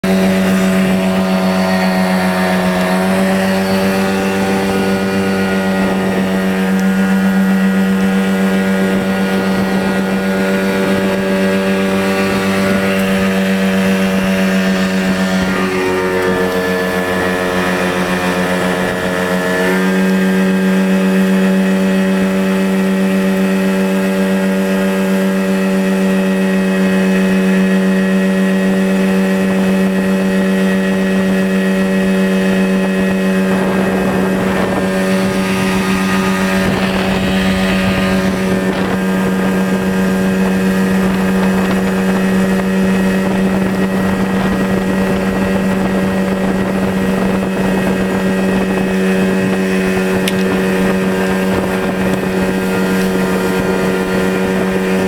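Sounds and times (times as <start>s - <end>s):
outboard motor drone: 0.0s - 55.0s
wake rushing: 0.0s - 55.0s.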